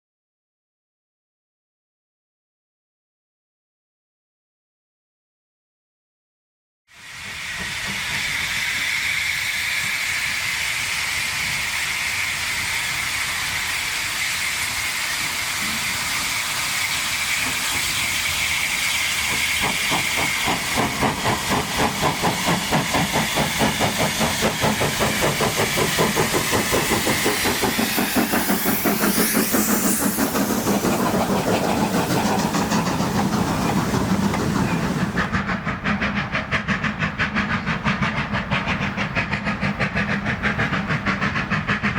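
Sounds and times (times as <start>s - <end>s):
steam hissing: 6.9s - 41.9s
steam locomotive exhaust beats: 6.9s - 41.9s.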